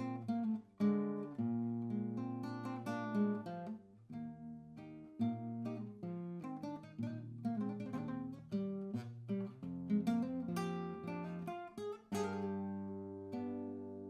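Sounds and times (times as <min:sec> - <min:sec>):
classical guitar fingerstyle: 0:00.0 - 0:14.0.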